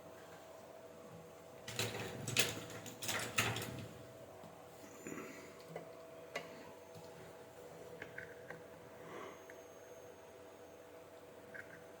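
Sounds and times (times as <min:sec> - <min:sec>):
faint electrical tone: 0:00.0 - 0:12.0.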